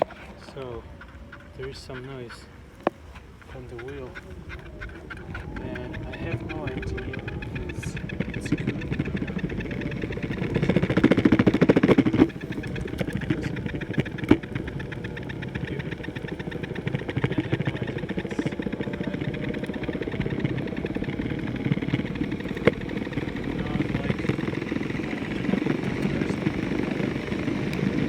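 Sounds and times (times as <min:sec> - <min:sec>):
skateboard wheel rattling: 0:00.0 - 0:28.0.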